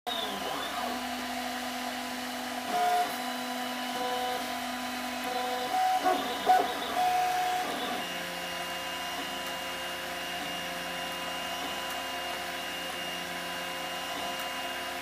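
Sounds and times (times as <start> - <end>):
printer stepper motors whining: 0.1 - 15.0.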